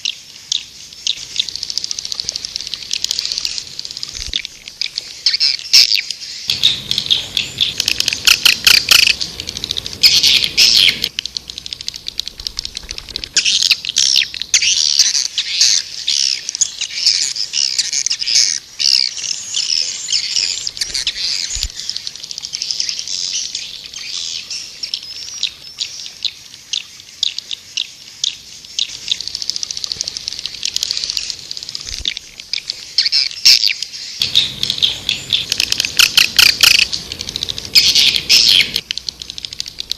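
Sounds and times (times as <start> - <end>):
swiftlets twittering: 1.1 - 25.8, 28.8 - 39.9.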